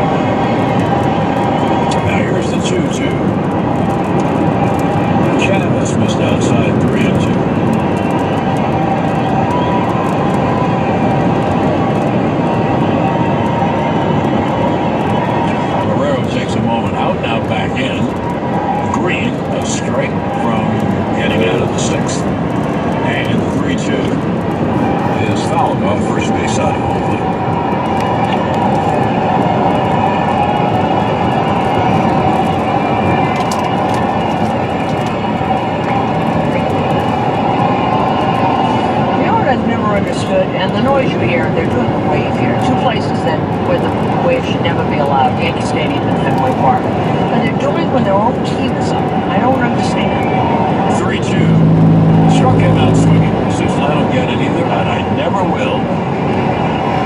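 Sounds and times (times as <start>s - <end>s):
tyres on wet pavement: 0.0s - 52.3s
road and wind noise in car: 0.0s - 57.0s.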